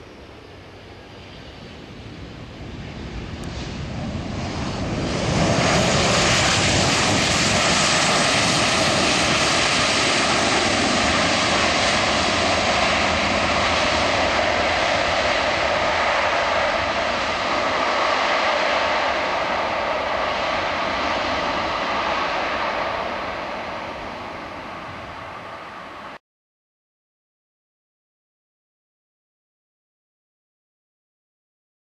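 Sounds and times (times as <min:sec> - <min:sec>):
faint engine whine: 0:00.0 - 0:26.2
jet engines roaring: 0:00.0 - 0:26.2.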